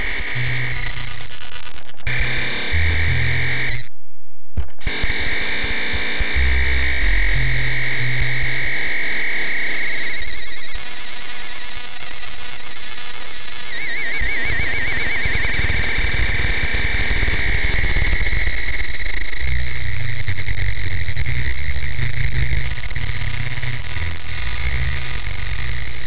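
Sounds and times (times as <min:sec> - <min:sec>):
high electronic synthesizer tones: 0:00.0 - 0:03.9, 0:04.8 - 0:12.8, 0:13.5 - 0:26.0.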